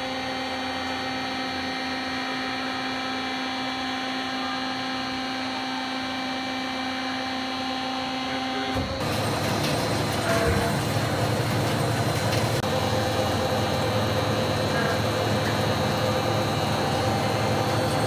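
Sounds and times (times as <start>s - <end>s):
band saw motor hum and whine: 0.0s - 18.0s.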